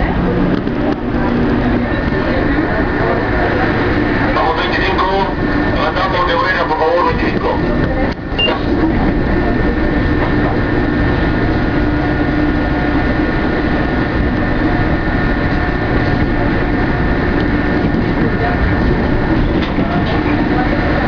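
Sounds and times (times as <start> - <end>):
high whine of traction control: 0.0 - 21.0
train rolling noise: 0.0 - 21.0.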